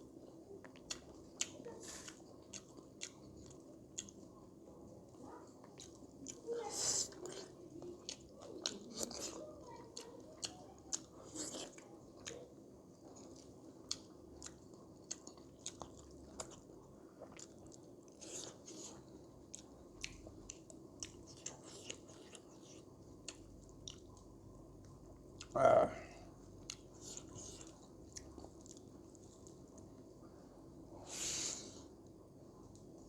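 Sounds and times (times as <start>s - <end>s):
person chewing food: 0.0s - 25.6s, 26.3s - 30.9s.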